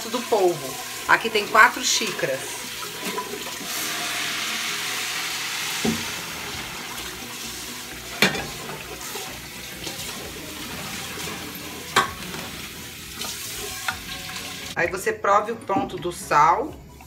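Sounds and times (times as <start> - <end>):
broth sizzling in pan: 0.0 - 14.8.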